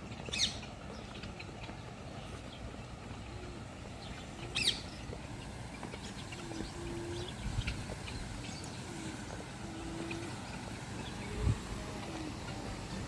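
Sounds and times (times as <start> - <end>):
birds calling low notes: 0.0 - 13.0.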